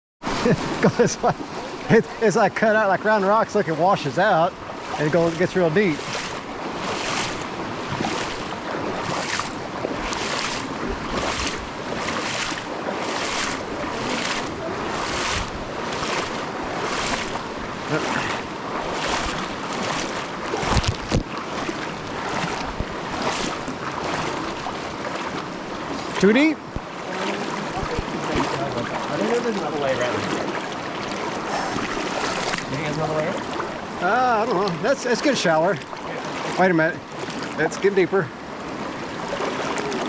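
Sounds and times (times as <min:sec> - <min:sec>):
flowing water rushing: 0:00.2 - 0:40.0
legs splashing through water: 0:00.2 - 0:40.0.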